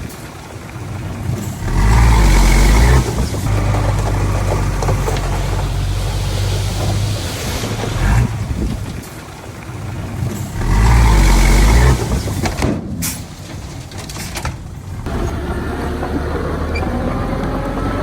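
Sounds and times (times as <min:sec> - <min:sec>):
diesel engine running: 0:00.8 - 0:09.0, 0:09.8 - 0:18.0.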